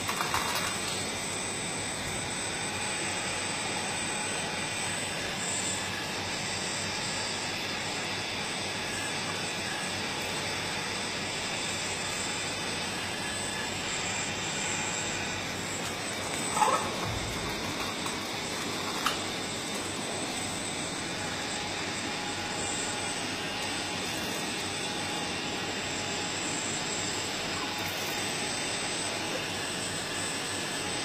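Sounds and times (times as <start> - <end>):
faint high whine: 0.1 - 31.0.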